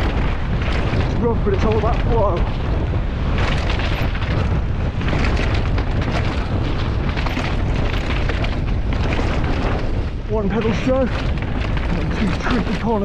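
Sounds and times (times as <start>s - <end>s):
bike clattering over rocks: 0.0s - 13.0s
wind buffeting camera: 0.0s - 13.0s.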